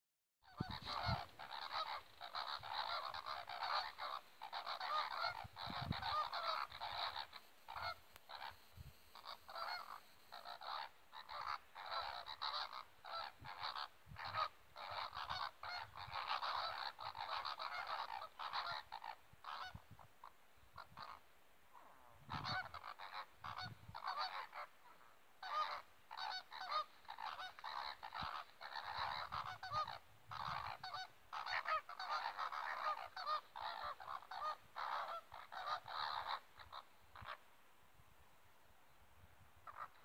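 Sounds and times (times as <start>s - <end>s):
flamingos honking: 0.5s - 19.9s, 21.8s - 37.4s, 39.6s - 40.0s.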